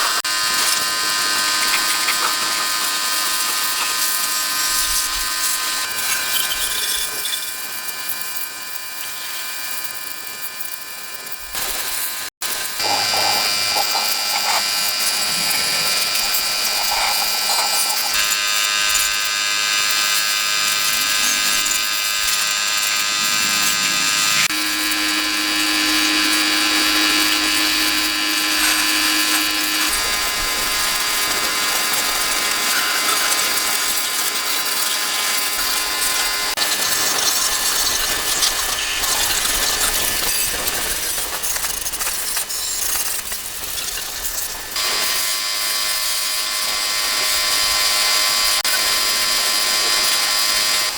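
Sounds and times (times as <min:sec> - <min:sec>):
power tools whining: 0:00.0 - 0:09.7, 0:11.3 - 0:50.9.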